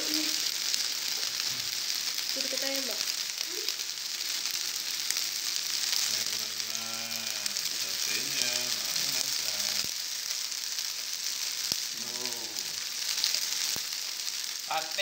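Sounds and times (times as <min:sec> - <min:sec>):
chicken sizzling on a grill pan: 0:00.0 - 0:15.0.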